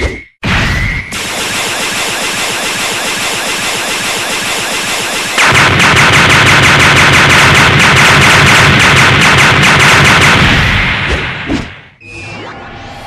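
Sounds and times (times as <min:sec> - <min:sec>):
rapid-fire barrage rattle: 0:01.1 - 0:12.0.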